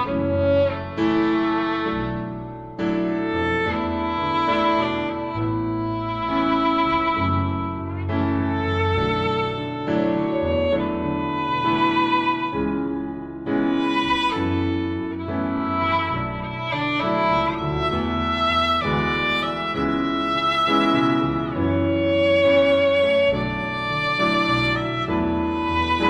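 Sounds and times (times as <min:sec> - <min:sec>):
violin melody: 0:00.0 - 0:26.0.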